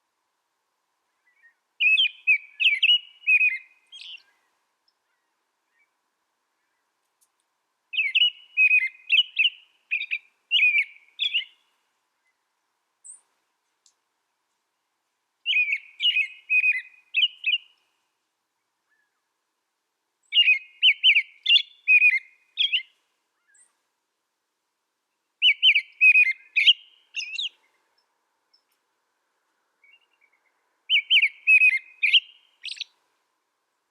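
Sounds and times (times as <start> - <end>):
small songbird chirping: 1.1 - 14.0, 15.4 - 19.4, 20.2 - 23.8, 25.1 - 28.9, 29.7 - 33.1.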